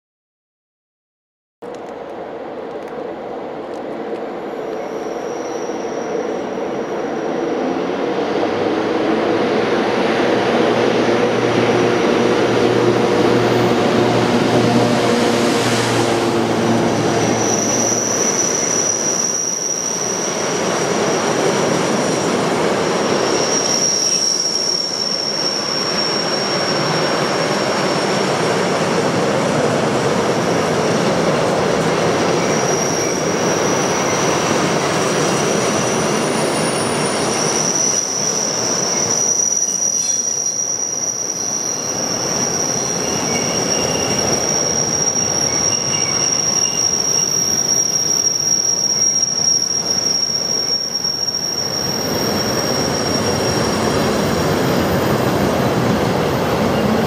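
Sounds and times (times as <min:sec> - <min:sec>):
electric locomotive humming: 0:01.7 - 0:57.0
high wheel squeal: 0:04.6 - 0:08.8, 0:10.1 - 0:28.7, 0:31.3 - 0:57.0.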